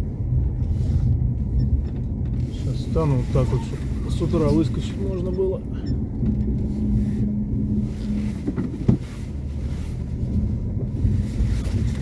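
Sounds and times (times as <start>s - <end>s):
car engine running at low speed: 0.0s - 12.0s.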